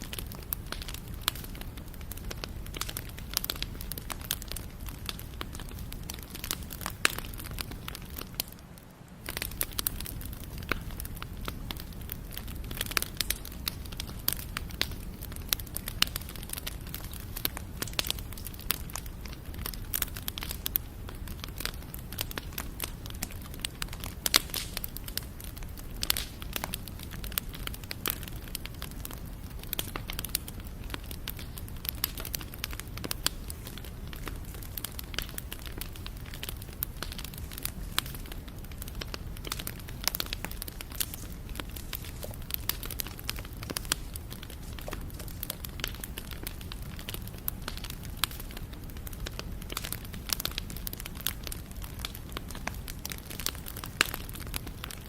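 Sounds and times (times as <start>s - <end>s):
fire crackling: 0.0s - 55.0s
low rumble of flames: 0.0s - 55.0s.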